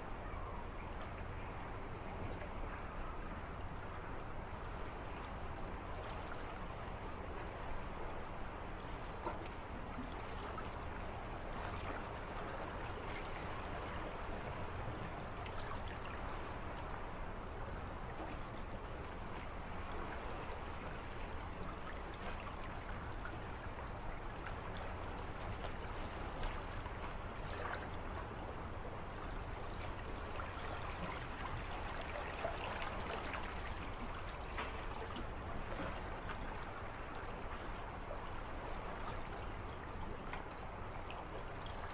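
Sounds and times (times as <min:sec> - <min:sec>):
low water rumble: 0:00.0 - 0:41.9
stream trickling and babbling: 0:00.0 - 0:41.9.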